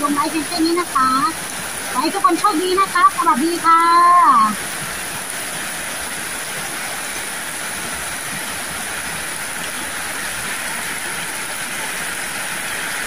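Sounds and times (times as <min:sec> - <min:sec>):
heavy rain on roofs and pavement: 0:00.0 - 0:13.0.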